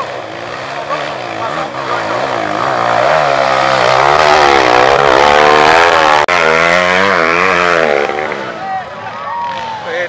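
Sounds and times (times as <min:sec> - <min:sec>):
dirt bike engine revving: 0:00.0 - 0:09.7.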